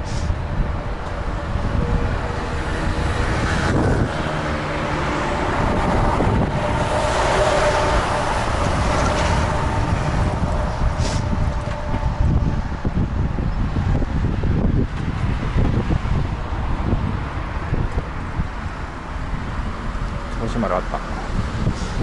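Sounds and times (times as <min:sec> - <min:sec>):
road traffic noise: 0:00.0 - 0:22.0
vehicle passing: 0:00.0 - 0:22.0
wind buffeting microphone: 0:00.0 - 0:22.0.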